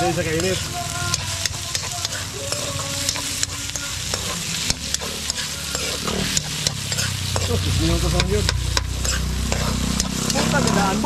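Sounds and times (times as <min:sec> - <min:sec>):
food sizzling in hot oil: 0:00.0 - 0:11.0
utensil knocking and scraping pan: 0:00.4 - 0:10.5.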